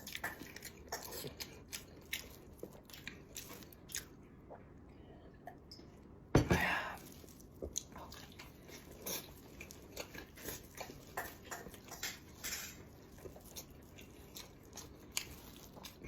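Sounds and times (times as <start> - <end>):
person chewing food: 0.0 - 6.1, 6.8 - 16.0.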